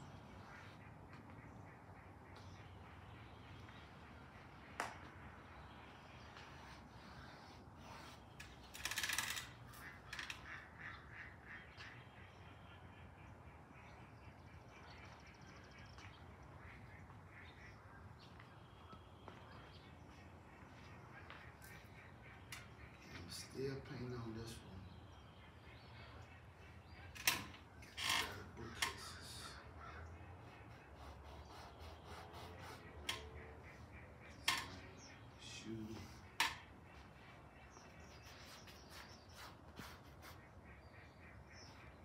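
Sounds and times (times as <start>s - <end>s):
ducks quacking: 0.0s - 7.6s, 9.7s - 27.3s, 28.0s - 38.3s, 39.9s - 42.0s
faint outdoor background: 0.0s - 42.0s.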